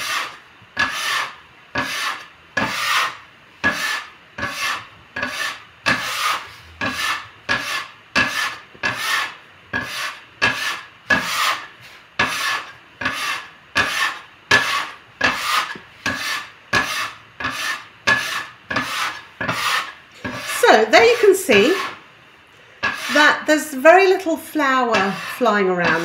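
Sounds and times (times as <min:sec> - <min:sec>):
metal scraper on wooden board: 0:00.0 - 0:22.0, 0:22.8 - 0:23.4, 0:24.0 - 0:26.0.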